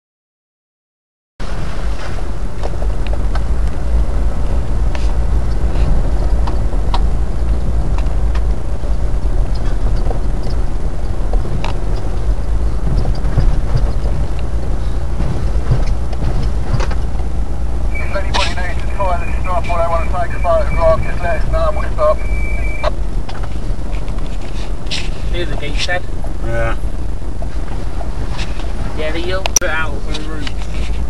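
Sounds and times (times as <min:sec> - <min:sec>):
vehicle engine and tyres rumbling: 0:01.4 - 0:31.0
vehicle rattling over bumps: 0:01.4 - 0:31.0.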